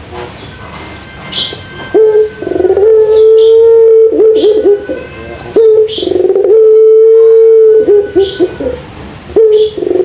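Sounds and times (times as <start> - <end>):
dove cooing: 1.9 - 10.0.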